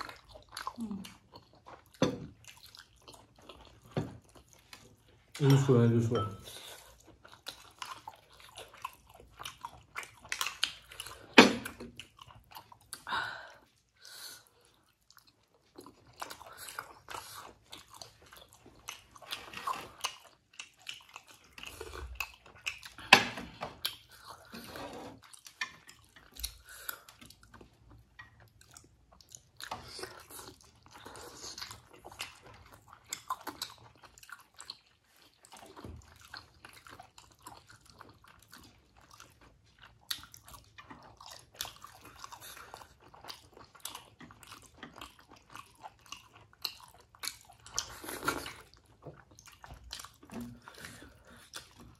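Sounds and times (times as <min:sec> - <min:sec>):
people chewing and biting: 0:00.0 - 0:51.9.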